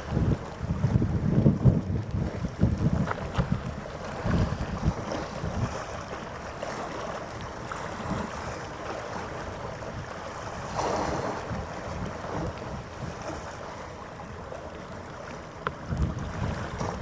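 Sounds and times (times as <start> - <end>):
harbour water washing: 0.0 - 17.0
wind buffeting microphone: 0.0 - 17.0.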